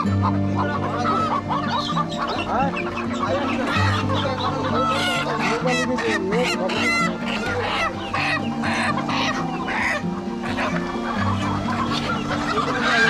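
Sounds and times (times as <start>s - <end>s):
chickens clucking and squawking: 0.0s - 13.0s.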